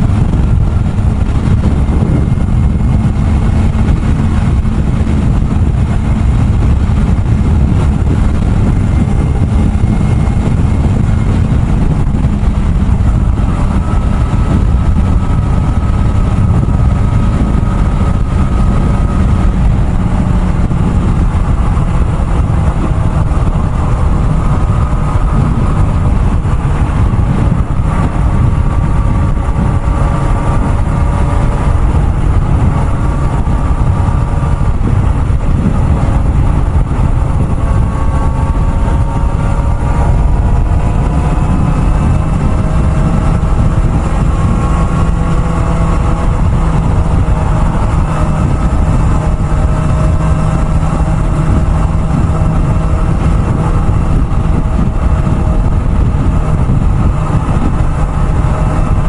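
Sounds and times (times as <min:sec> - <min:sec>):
motorcycle engine running: 0:00.0 - 0:59.0
rushing wind noise: 0:00.0 - 0:59.0.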